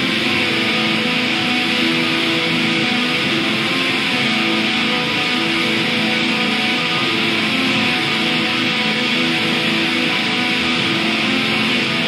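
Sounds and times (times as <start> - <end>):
metal music with electric guitars: 0.0 - 12.0.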